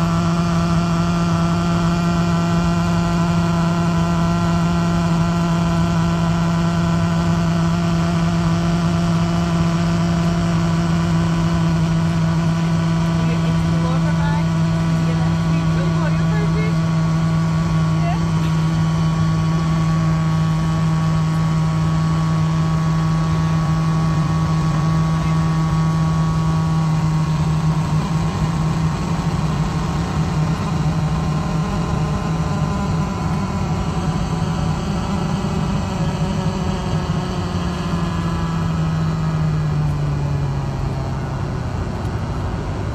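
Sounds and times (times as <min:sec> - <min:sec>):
loudspeaker low hum: 0:00.0 - 0:42.9.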